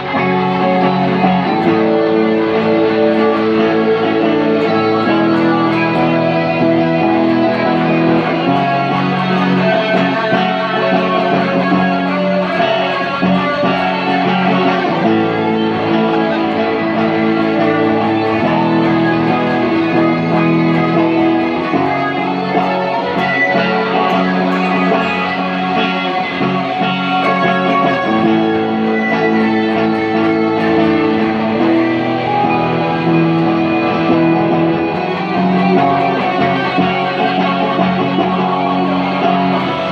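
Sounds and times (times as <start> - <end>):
acoustic guitar chords: 0.0 - 39.9.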